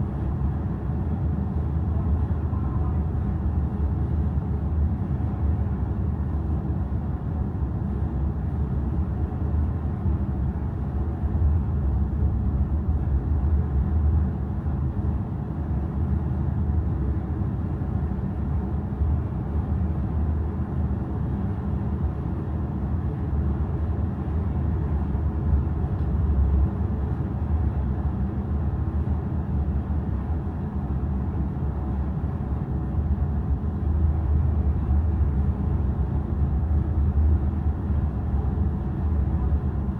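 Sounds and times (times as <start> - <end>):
ferry engine low rumble: 0.0 - 39.9.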